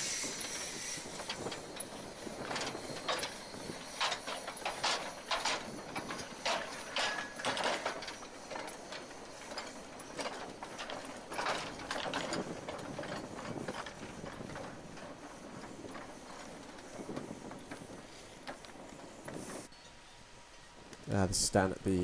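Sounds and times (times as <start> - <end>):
train wheels clicking over rail joints: 0.0 - 19.9.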